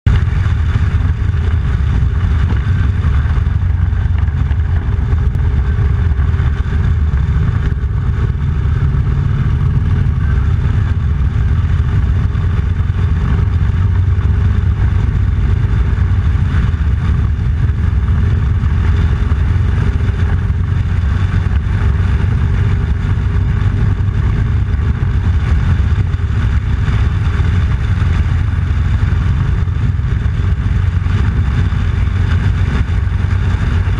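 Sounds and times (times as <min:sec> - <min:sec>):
motorcycle engine rumble: 0:00.0 - 0:33.9.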